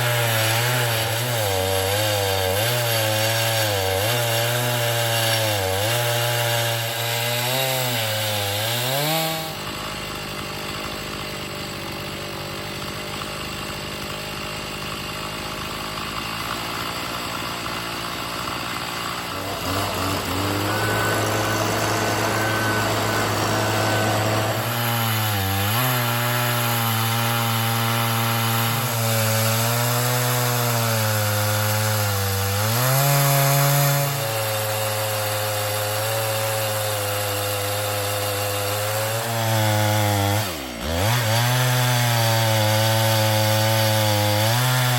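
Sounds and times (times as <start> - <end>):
chainsaw cutting through log: 0.0 - 44.9.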